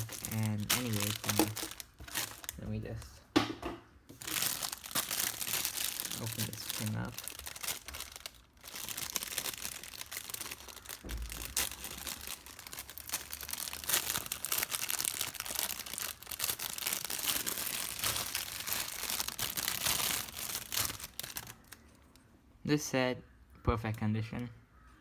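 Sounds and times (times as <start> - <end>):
plastic packaging crinkling: 0.0 - 3.2, 4.1 - 22.2
plastic tearing: 0.0 - 3.2, 4.1 - 22.2.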